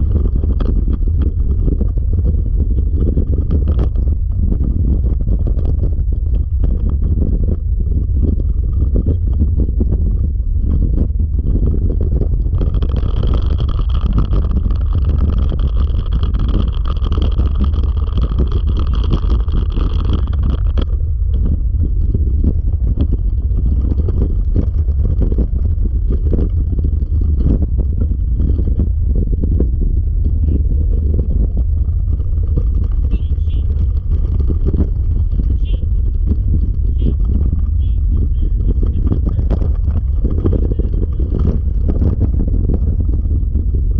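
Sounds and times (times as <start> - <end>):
wheels rumbling on dirt trail: 0.0 - 43.9
wind buffeting microphone: 0.0 - 43.9.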